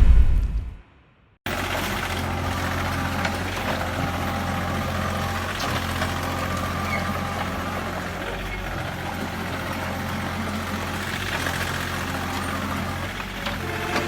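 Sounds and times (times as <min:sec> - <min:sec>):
excavator diesel engine running: 0:01.5 - 0:14.0.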